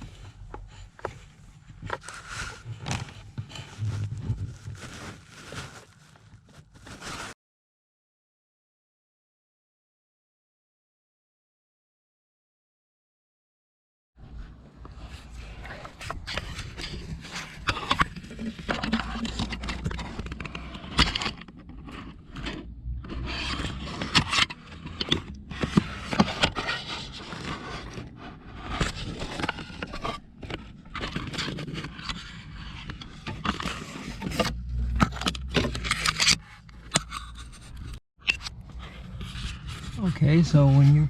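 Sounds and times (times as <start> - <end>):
scraping and rubbing: 0.0 - 7.4, 14.2 - 41.0.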